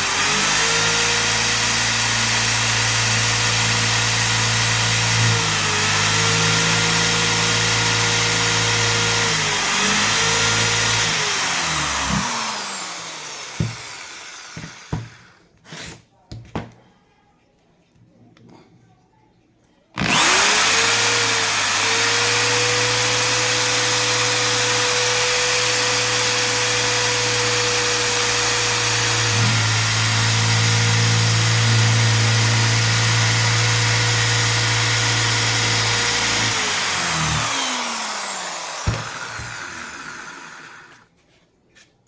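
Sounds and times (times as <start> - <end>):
electric drill whining: 0.0 - 15.4, 20.0 - 41.1.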